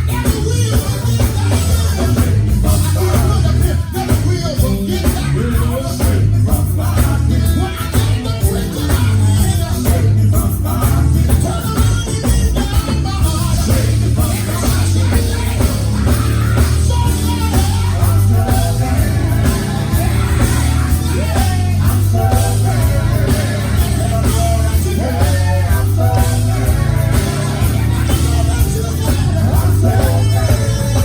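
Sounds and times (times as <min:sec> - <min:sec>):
band with heavy bass and drums: 0:00.0 - 0:31.0
gospel quartet singing: 0:00.0 - 0:31.0.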